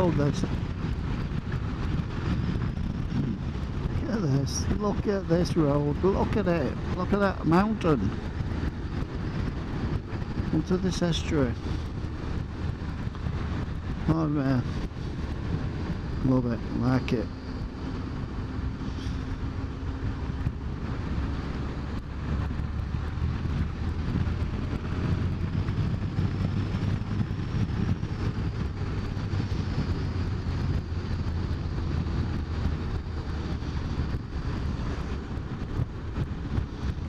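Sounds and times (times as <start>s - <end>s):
road noise: 0.0s - 37.0s
rushing wind: 0.0s - 37.0s
motorcycle engine running: 6.8s - 37.0s.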